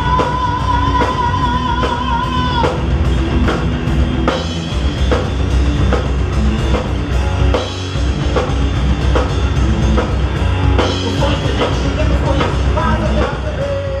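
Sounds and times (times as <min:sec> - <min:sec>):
driving drum kit: 0:00.0 - 0:14.0
heavy metal band playing: 0:00.0 - 0:14.0.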